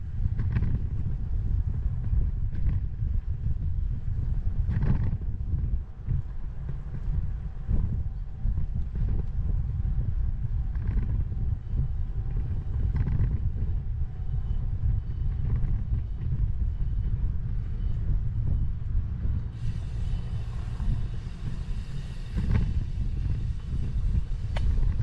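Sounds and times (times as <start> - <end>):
wind and riding noise: 0.0 - 25.0.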